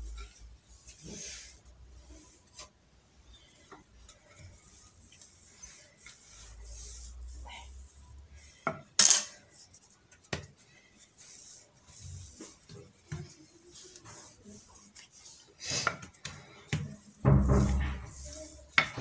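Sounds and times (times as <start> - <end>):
rolling pin rolling dough: 0.0 - 19.0.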